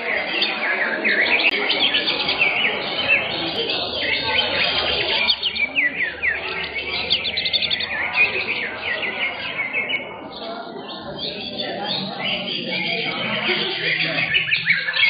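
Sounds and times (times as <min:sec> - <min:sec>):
birds chirping and whistling: 0:00.0 - 0:15.0
murmur of voices: 0:00.0 - 0:15.0.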